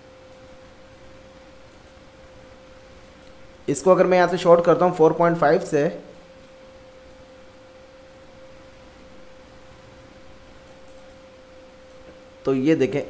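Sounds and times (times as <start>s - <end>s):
low background hiss: 0.0s - 13.0s
steady pure tone: 0.0s - 13.0s.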